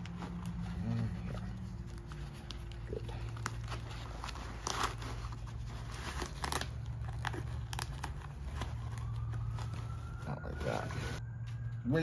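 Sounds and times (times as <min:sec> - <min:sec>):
velcro ripping: 0:00.0 - 0:09.8
fabric straps rustling: 0:00.0 - 0:11.2.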